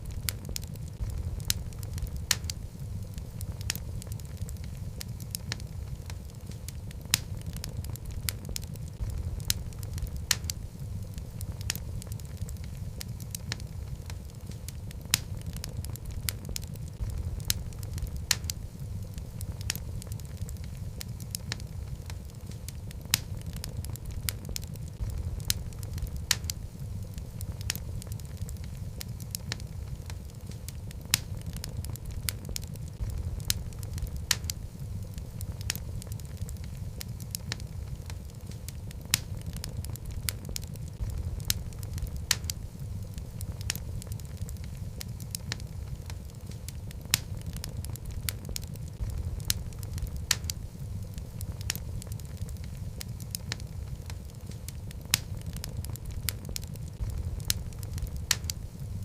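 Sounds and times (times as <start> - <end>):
low rumble of flames: 0.0 - 59.0
sharp fire pops: 0.0 - 59.0
wood fire crackling: 0.0 - 59.0.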